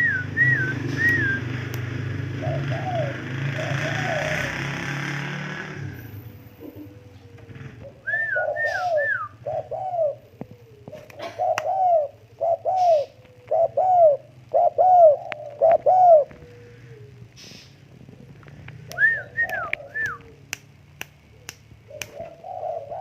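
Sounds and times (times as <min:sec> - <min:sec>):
dove cooing: 0:02.2 - 0:04.7, 0:05.8 - 0:20.5, 0:21.2 - 0:23.0.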